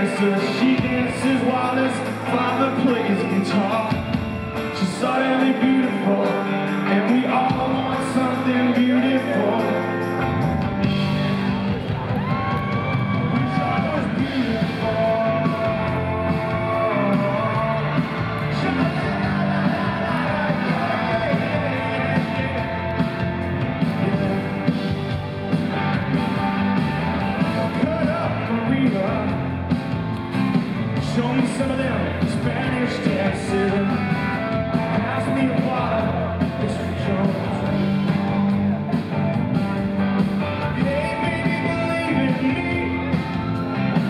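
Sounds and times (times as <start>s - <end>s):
man singing lead vocal: 0.0s - 11.6s, 12.8s - 25.1s, 27.4s - 29.9s, 30.8s - 39.1s, 40.5s - 44.0s
live rock band playing: 0.0s - 44.0s.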